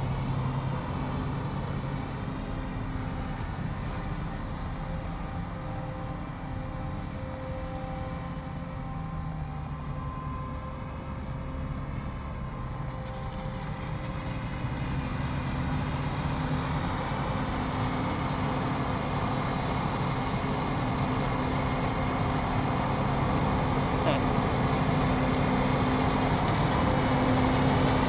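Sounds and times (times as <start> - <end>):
forage harvester engine and chopping drone: 0.0 - 28.0.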